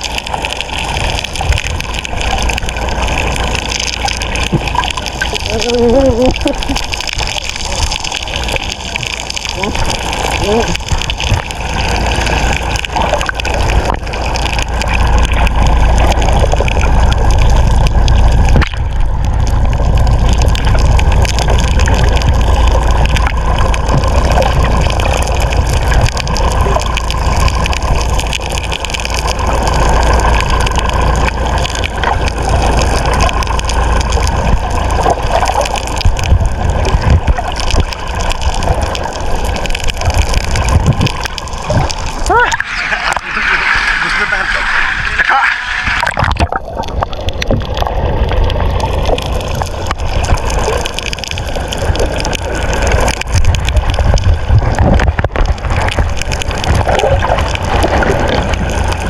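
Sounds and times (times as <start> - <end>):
boat motor running: 0.0 - 59.0
rushing water: 0.0 - 59.0
wind noise: 0.8 - 28.8, 29.4 - 59.0.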